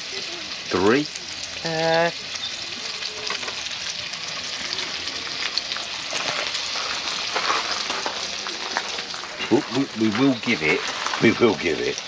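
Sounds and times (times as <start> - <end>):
food sizzling on barbecue: 0.0 - 12.0
small crackles: 2.2 - 12.0.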